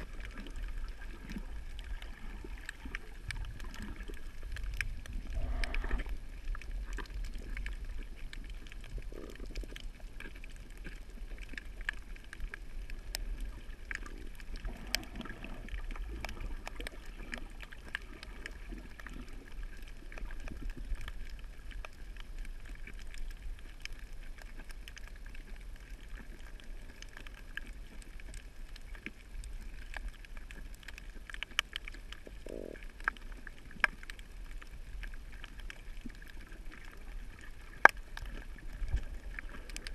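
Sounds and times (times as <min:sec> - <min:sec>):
underwater clicks: 0:00.0 - 0:39.9
underwater rumble of moving water: 0:00.0 - 0:39.9.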